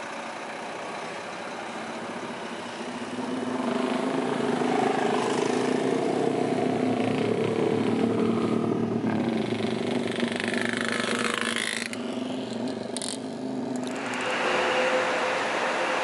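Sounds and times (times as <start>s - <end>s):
nearer engine steady note: 0.0s - 16.0s.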